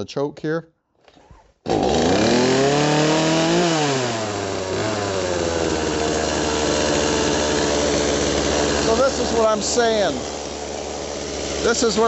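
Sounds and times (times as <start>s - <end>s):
chainsaw engine revving and idling: 1.7s - 12.0s.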